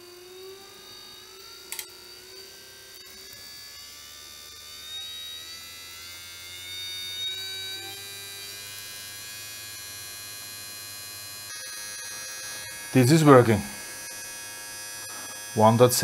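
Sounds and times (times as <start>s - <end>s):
electric motor buzzing whine: 0.0s - 16.0s.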